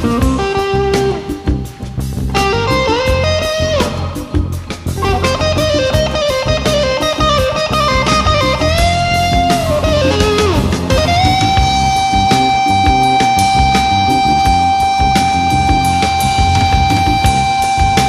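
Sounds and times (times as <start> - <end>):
bass and drums: 0.0 - 18.0
electric guitar bending notes: 0.0 - 18.0.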